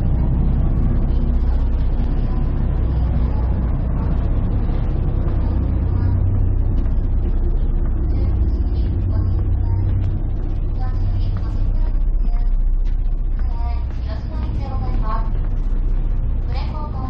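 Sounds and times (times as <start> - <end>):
faint voices: 0.0 - 17.0
low engine drone: 0.0 - 17.0.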